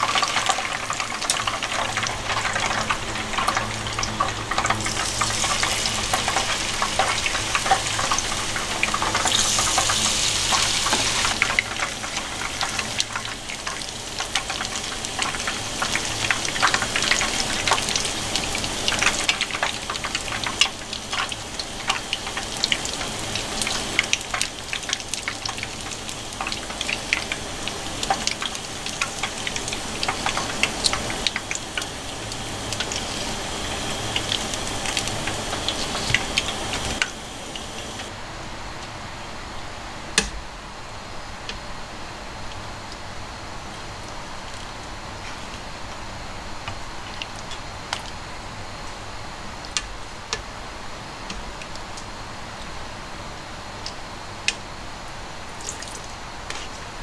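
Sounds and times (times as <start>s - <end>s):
food deep-frying in oil: 0.0s - 38.3s, 40.2s - 57.0s.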